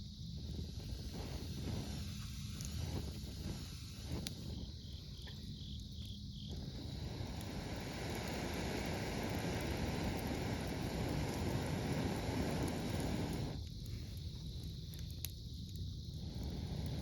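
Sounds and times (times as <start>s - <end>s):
broad rushing hiss: 0.0s - 5.5s, 6.4s - 14.4s, 16.0s - 17.0s
campfire crackling: 0.0s - 17.0s
cricket chirping: 0.0s - 17.0s.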